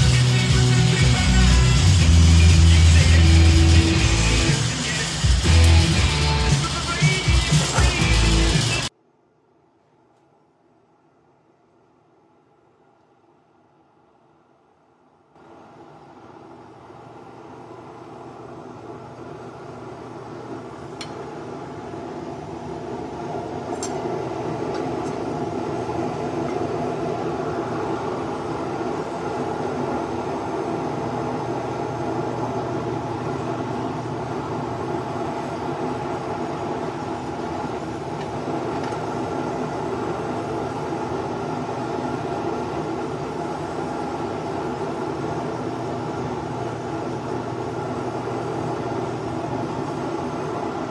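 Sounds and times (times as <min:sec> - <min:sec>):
gas forge rumbling rush: 0:00.0 - 0:08.9, 0:15.4 - 0:50.9.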